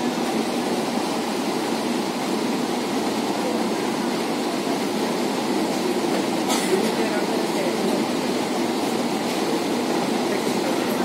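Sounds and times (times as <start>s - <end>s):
train coach running noise: 0.0s - 11.0s.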